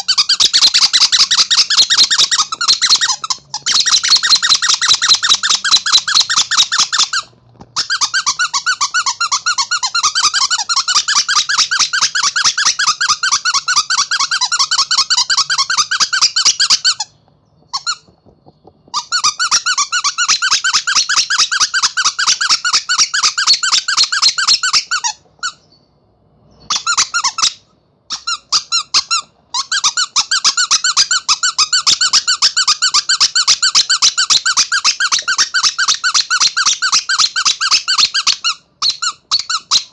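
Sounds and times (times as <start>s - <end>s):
squeaky toy squeaking: 0.0s - 25.6s, 26.7s - 39.9s.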